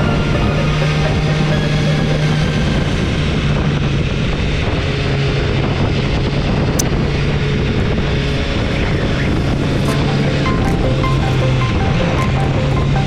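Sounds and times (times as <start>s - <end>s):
broad rushing noise: 0.0s - 13.0s.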